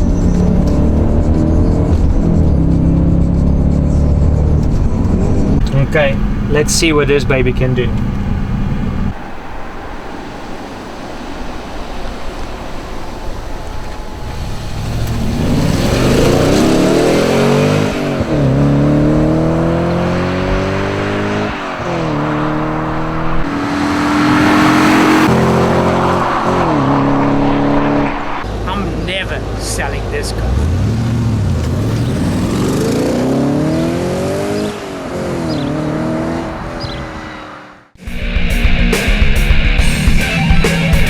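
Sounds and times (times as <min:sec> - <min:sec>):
car engine accelerating through gears: 0:00.0 - 0:28.5, 0:30.4 - 0:38.1.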